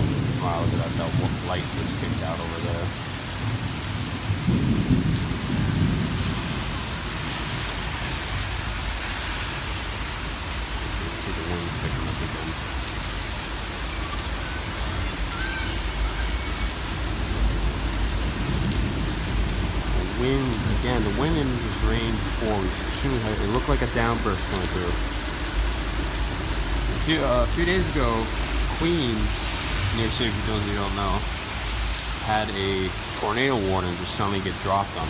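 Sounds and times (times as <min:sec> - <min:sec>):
thunder rumbling: 0:00.0 - 0:34.6
heavy rain pouring: 0:00.0 - 0:35.0.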